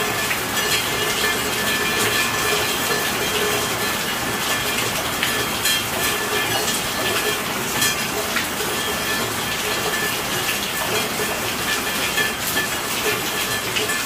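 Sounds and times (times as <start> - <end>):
individual drops and drips: 0.0 - 14.0
rain falling: 0.0 - 14.0.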